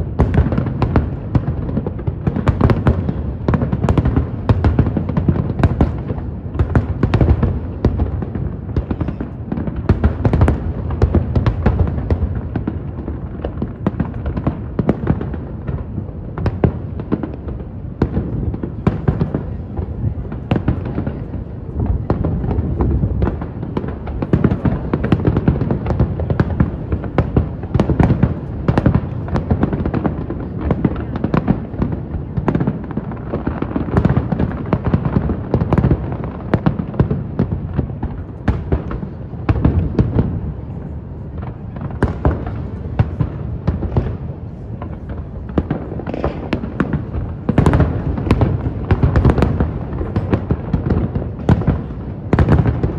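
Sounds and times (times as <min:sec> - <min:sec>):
fireworks bangs and cracks: 0:00.0 - 0:52.9.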